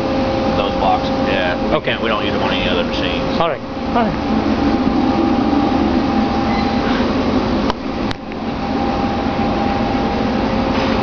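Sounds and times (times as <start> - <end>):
shop machinery hum: 0.0 - 11.0
whining tones: 0.0 - 11.0.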